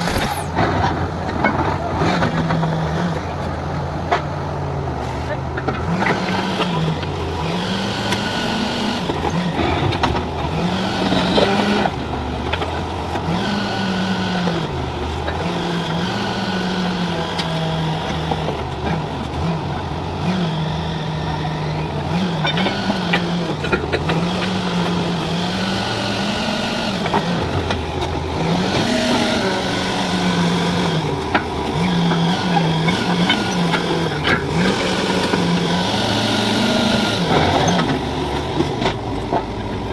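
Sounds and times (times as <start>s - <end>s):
drilling rig engine under load: 0.0s - 39.9s.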